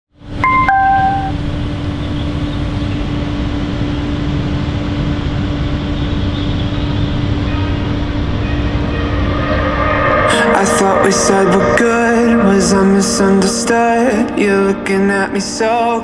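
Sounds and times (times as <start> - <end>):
constant low hum: 0.2 - 15.3.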